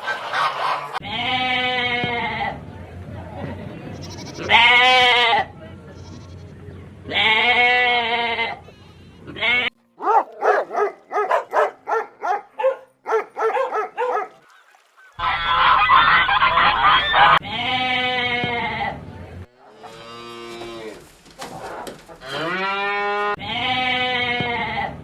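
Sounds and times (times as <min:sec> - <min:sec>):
farm animal calls: 0:00.0 - 0:02.5, 0:03.8 - 0:24.9.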